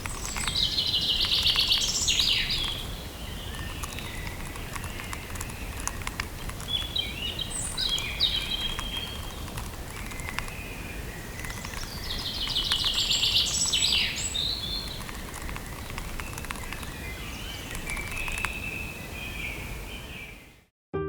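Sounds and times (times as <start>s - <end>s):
bird trill: 0.0s - 20.4s
songbirds chirping and whistling: 0.0s - 20.7s.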